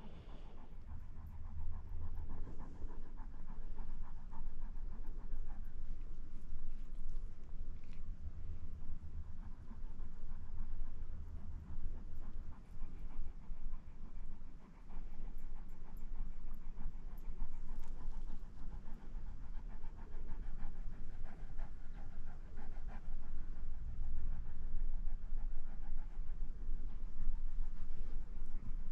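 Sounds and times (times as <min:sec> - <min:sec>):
dog panting: 0:00.0 - 0:28.9.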